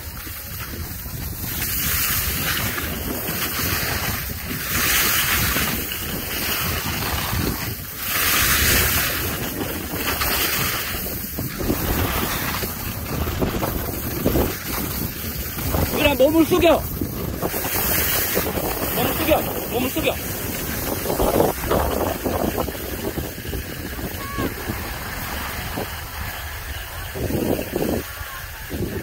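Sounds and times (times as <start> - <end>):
skis hissing over snow: 0.0 - 29.0
wind on microphone: 0.0 - 29.0.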